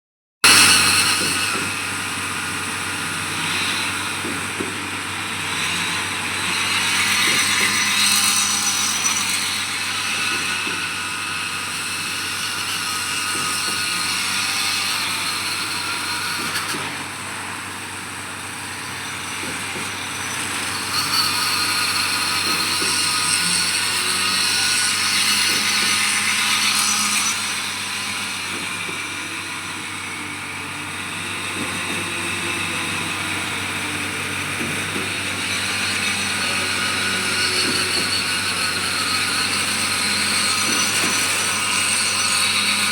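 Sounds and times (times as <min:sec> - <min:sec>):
engine and machinery noise: 0:00.5 - 0:42.9.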